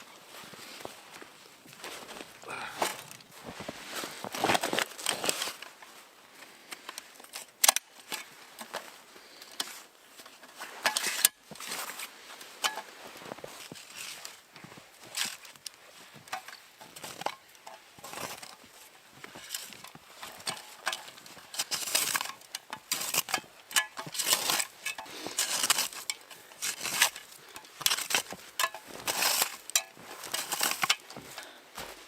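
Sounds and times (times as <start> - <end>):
footsteps crunching in snow: 0.0 - 6.7, 11.4 - 32.0.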